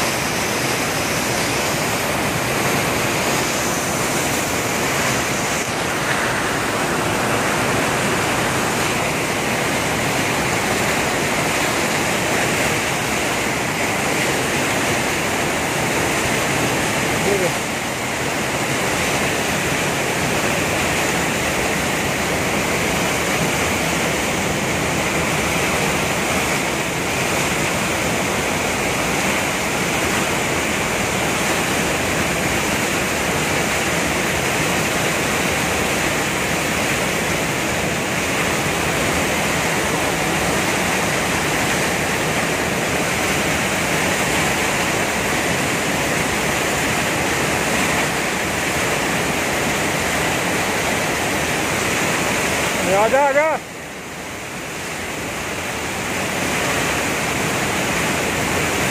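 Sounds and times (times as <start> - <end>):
river rushing over boulders: 0.0 - 58.9.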